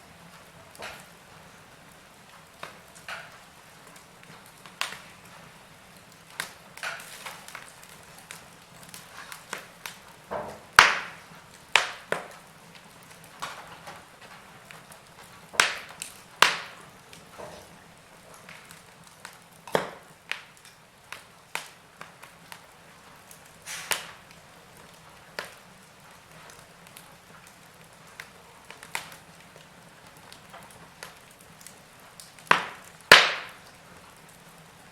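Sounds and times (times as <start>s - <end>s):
faint steady hiss: 0.0s - 34.9s
wood fire crackling and popping: 0.0s - 34.9s.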